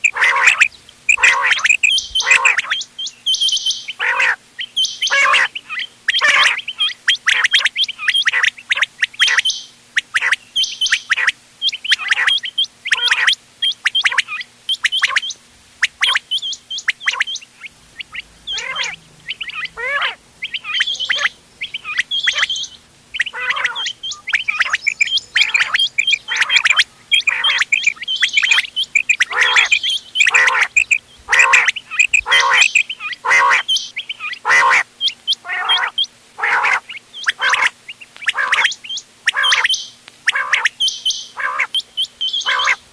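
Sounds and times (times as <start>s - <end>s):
quails calling: 0.0s - 42.9s.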